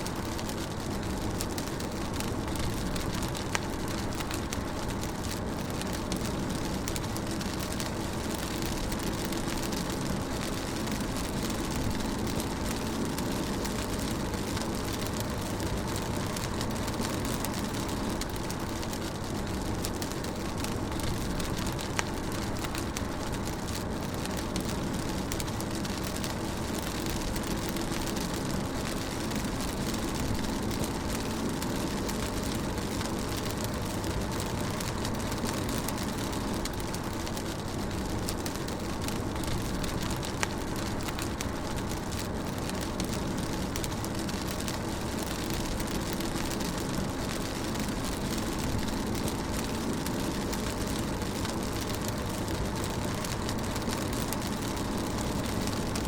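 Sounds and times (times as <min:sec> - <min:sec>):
rain pattering on car roof: 0:00.0 - 0:56.0.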